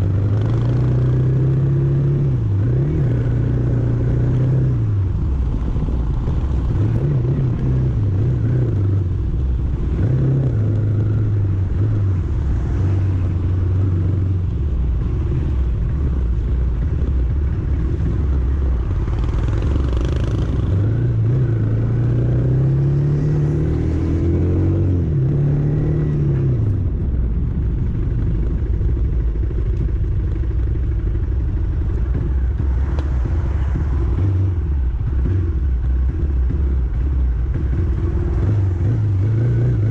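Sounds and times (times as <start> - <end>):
road rumble: 0.0 - 39.9
vehicle engine running: 2.4 - 39.9.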